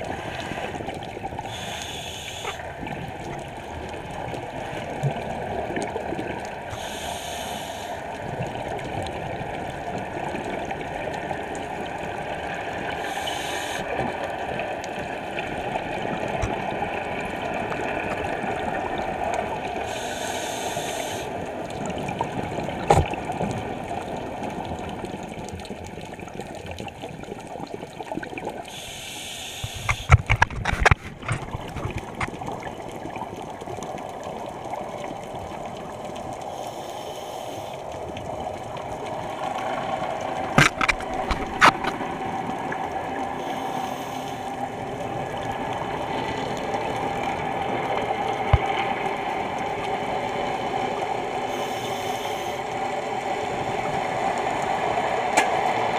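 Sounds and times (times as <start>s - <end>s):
regulator bubbles hissing: 0.0s - 55.9s
underwater water noise: 0.0s - 55.9s.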